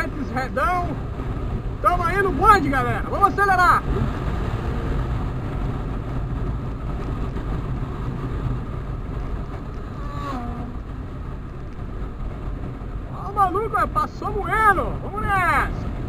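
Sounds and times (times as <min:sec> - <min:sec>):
wind noise: 0:00.0 - 0:16.0.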